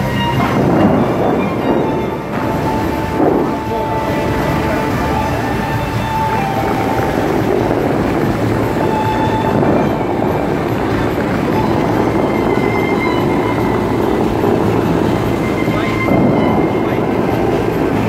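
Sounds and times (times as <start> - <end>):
water jets rushing: 0.0 - 18.0.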